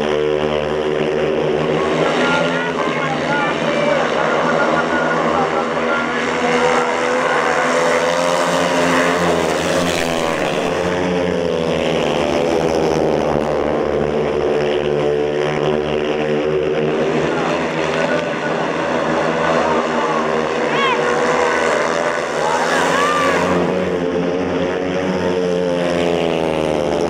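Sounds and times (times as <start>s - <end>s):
motorbikes racing: 0.0s - 27.0s.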